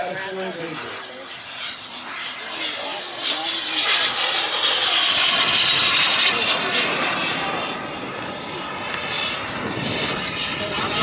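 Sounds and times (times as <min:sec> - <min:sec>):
model jet turbine whine: 0:00.0 - 0:11.0.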